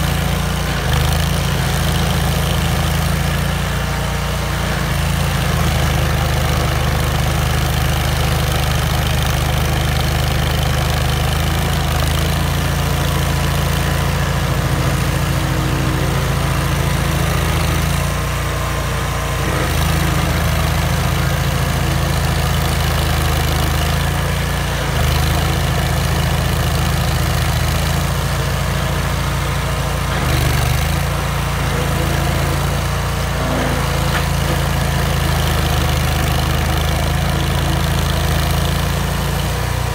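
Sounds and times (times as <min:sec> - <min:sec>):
stump grinder engine running: 0:00.0 - 0:39.9
cutter wheel chewing stump: 0:04.4 - 0:39.9.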